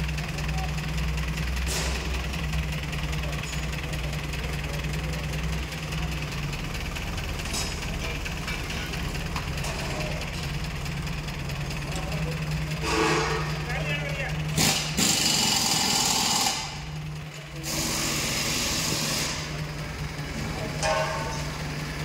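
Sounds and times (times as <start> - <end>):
crane diesel engine running: 0.0 - 22.0.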